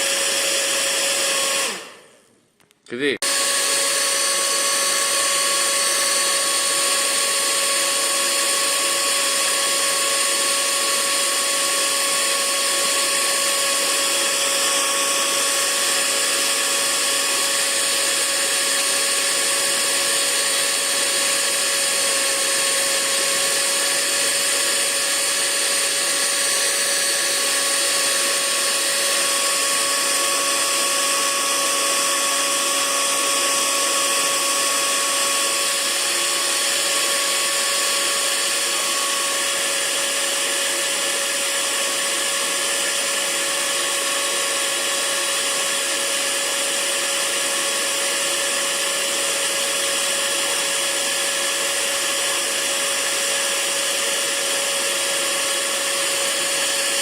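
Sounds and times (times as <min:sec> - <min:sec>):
hair dryer running: 0:00.0 - 0:02.2, 0:03.2 - 0:57.0.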